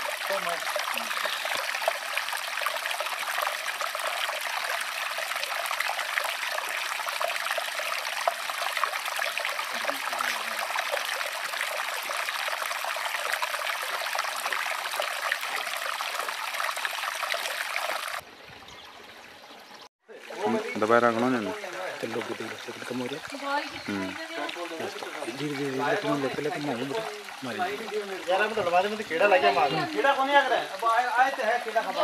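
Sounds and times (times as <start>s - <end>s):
stream water trickling and splashing: 0.0s - 32.0s.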